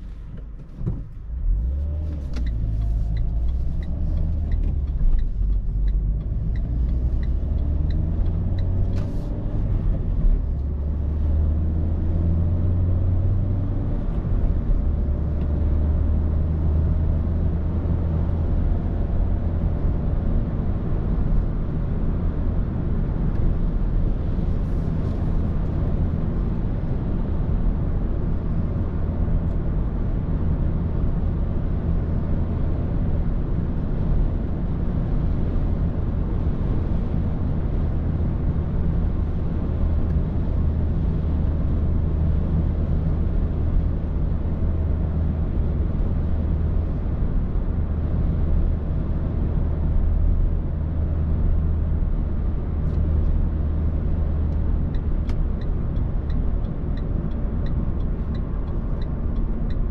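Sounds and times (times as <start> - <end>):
car engine droning: 0.0 - 59.9
road noise: 0.0 - 59.9.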